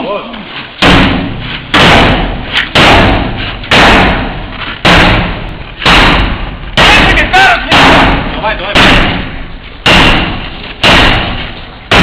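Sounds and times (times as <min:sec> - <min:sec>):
sledgehammer striking door: 0:00.8 - 0:12.0.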